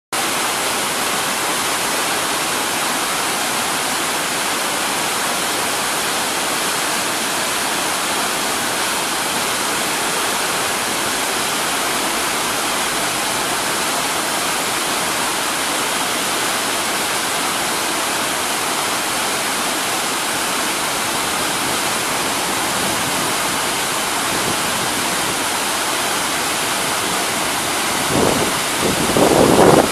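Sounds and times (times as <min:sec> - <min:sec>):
water rushing over rocks: 0:00.2 - 0:29.9.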